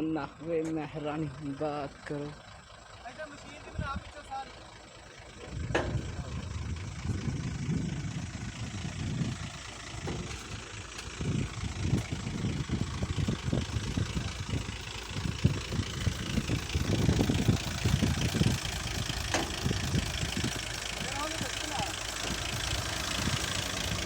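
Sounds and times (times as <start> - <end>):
excavator diesel engine pulsing: 0.0 - 24.0.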